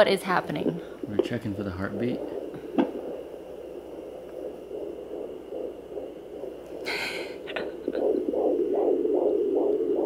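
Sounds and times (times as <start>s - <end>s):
fetal heartbeat pulsing: 0.0s - 10.0s
scratchy hiss: 0.7s - 9.9s.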